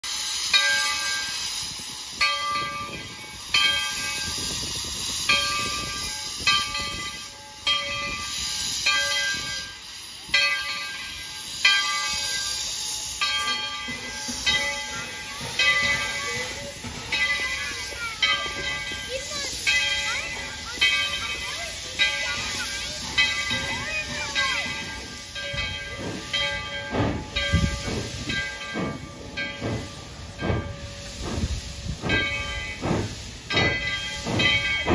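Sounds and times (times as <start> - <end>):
steam hissing: 0.0 - 34.9
locomotive bell ringing: 0.1 - 34.9.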